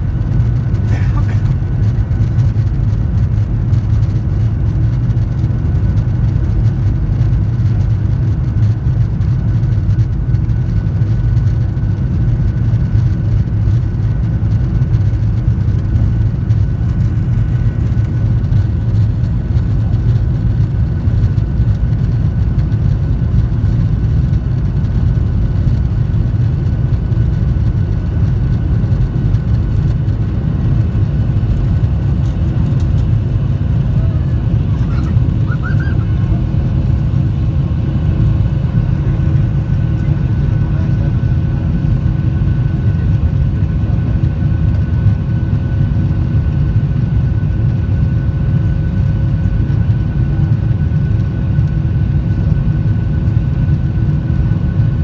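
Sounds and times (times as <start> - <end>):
faint engine whine: 0.0 - 55.0
jet engines rumbling: 0.0 - 55.0.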